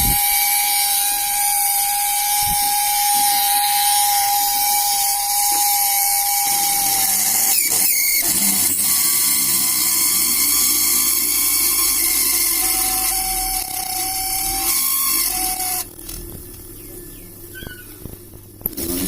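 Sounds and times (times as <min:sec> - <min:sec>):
drill bit grinding into brick: 0:00.0 - 0:16.4, 0:18.6 - 0:19.0
small drill motor whining: 0:00.0 - 0:19.0.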